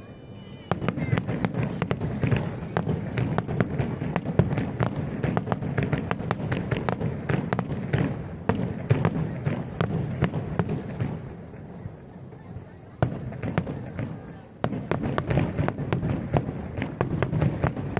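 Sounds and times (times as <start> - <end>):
fireworks bangs and crackles: 0.0 - 17.9.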